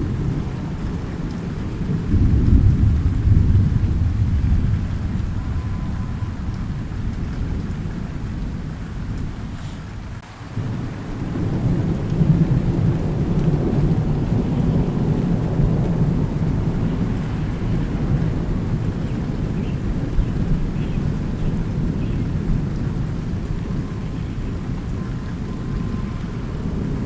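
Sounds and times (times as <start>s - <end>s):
rolling thunder: 0.0s - 27.0s
steady rain: 0.0s - 27.0s.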